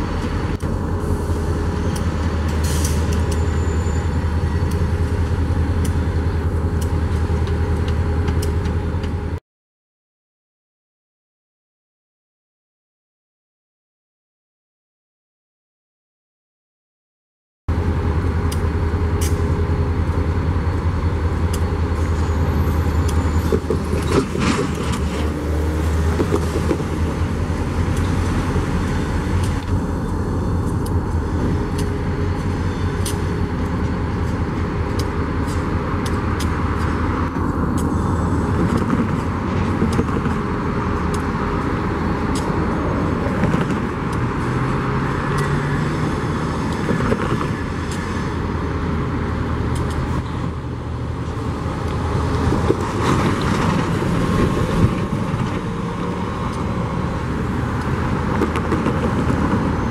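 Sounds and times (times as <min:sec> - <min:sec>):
diesel locomotive engine rumbling: 0:00.0 - 0:09.4, 0:17.7 - 0:59.9
train rolling with clicks: 0:00.0 - 0:09.4, 0:17.7 - 0:59.9.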